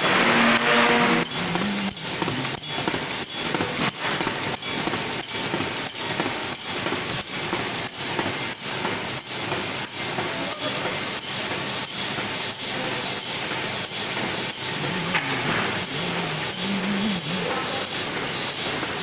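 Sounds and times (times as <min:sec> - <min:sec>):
folding machine running: 0:00.0 - 0:19.0.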